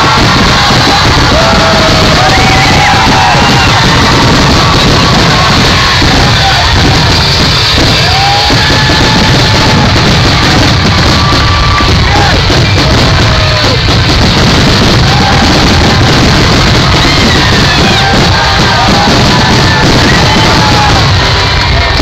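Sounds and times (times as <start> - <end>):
crowd yelling: 0.0 - 22.0
loud music: 0.0 - 22.0.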